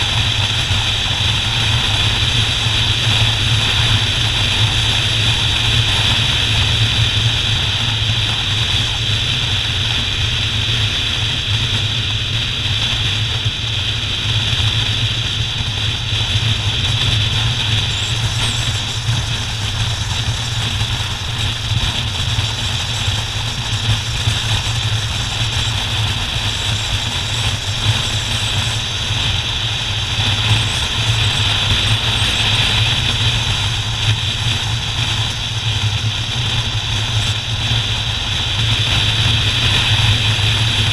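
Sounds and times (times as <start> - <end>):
motorcycle engine hum: 0.0 - 40.9
road noise: 0.0 - 40.9
rushing wind: 0.0 - 40.9.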